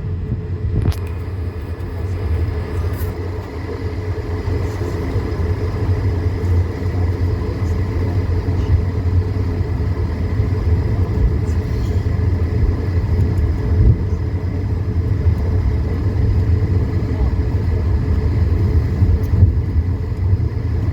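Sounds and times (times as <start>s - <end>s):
faint jet engine whine: 0.0s - 20.9s.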